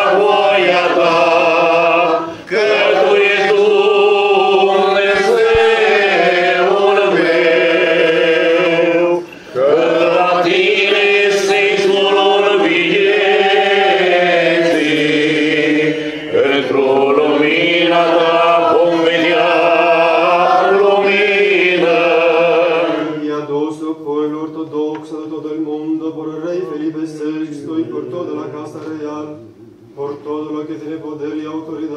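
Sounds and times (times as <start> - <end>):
liturgical chant: 0.0 - 31.9.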